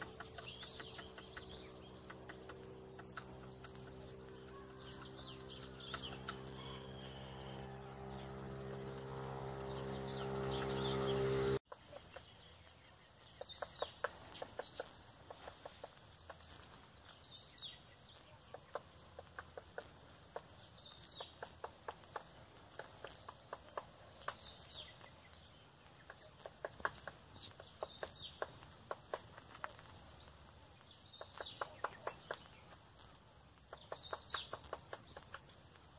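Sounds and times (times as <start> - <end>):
birds chirping: 0.0 - 35.9
high insect drone: 0.0 - 35.9.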